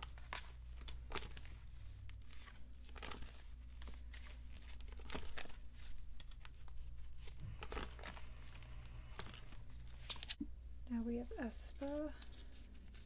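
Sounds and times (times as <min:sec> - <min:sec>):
plastic sleeves crinkling: 0:00.0 - 0:10.5, 0:11.2 - 0:13.0
low steady hum: 0:00.0 - 0:13.0.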